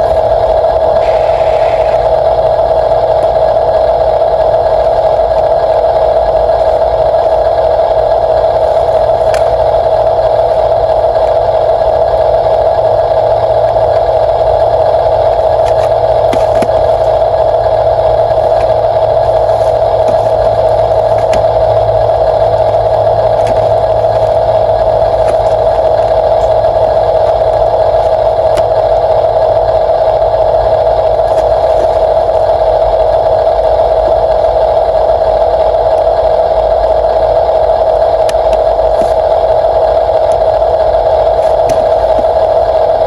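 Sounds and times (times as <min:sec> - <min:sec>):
toy electric motor whining: 0:00.0 - 0:36.1, 0:37.6 - 0:43.0.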